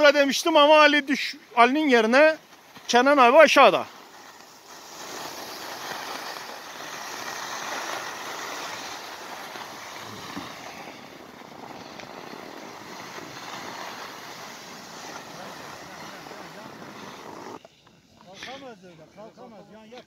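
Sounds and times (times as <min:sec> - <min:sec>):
skis hissing on snow: 0:00.1 - 0:18.8.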